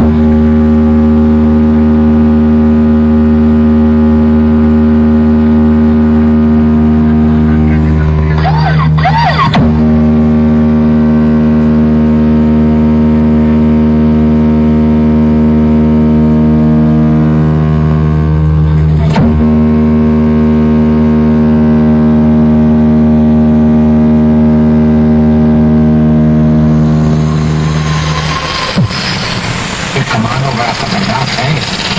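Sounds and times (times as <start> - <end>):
loud engine droning: 0.0 - 31.9.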